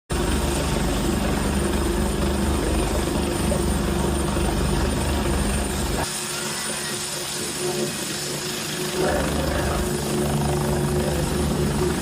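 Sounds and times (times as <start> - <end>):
helicopter engine hum: 0.1 - 12.0
helicopter rotor beating: 0.1 - 12.0.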